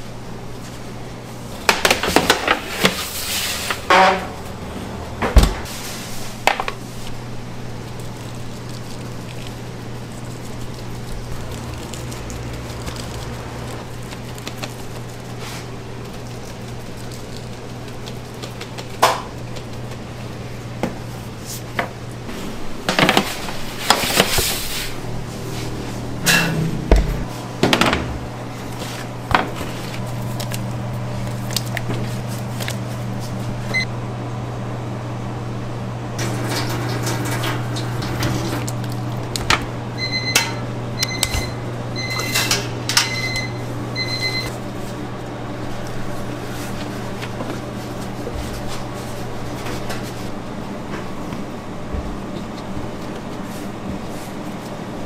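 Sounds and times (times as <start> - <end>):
low hum of kitchen equipment: 0.0 - 55.0.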